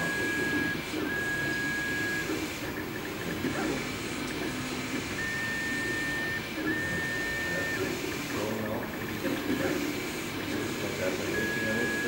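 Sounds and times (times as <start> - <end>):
printer motors whining: 0.0 - 12.0.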